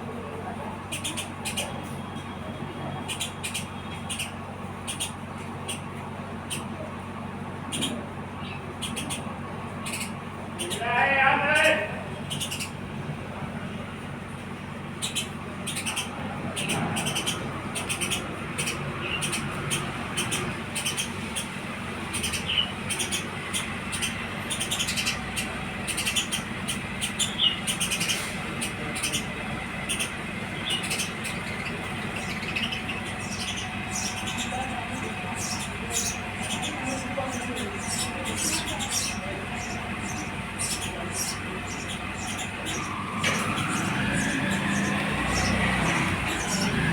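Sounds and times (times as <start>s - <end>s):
sparrows chirping: 0.0s - 46.9s
steady low hum: 0.0s - 46.9s.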